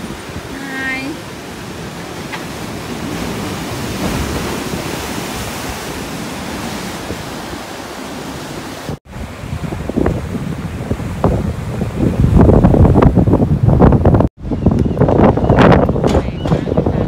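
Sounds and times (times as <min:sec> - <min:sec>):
surf breaking over rocks: 0:00.0 - 0:13.8.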